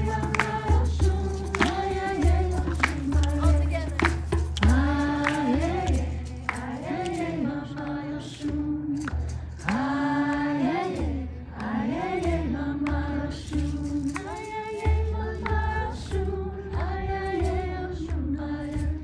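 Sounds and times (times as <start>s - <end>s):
group singing a chant: 0.0s - 19.0s.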